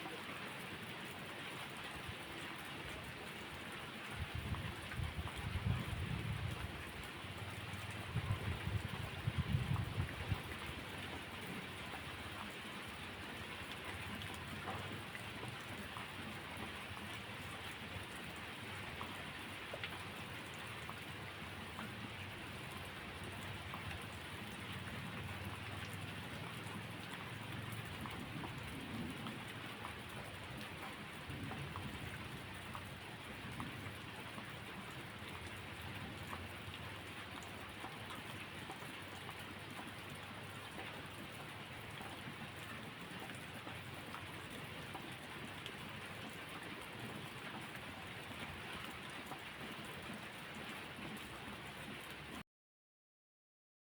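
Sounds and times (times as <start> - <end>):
steady rainfall: 0.0 - 52.4.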